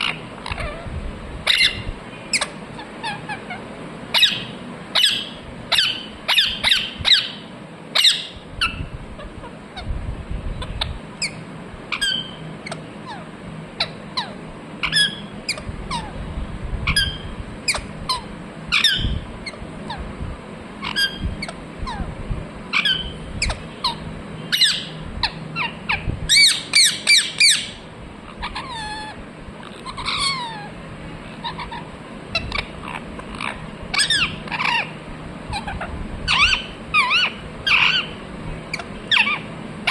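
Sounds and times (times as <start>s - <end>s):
parrot squawking and chirping: 0.0s - 9.9s, 10.6s - 16.2s, 16.8s - 20.1s, 20.8s - 22.1s, 22.7s - 39.9s.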